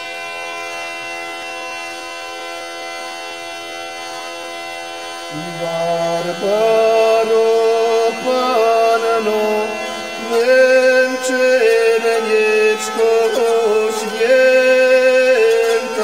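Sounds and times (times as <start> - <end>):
hurdy-gurdy drone: 0.0 - 16.0
hurdy-gurdy melody: 0.0 - 16.0.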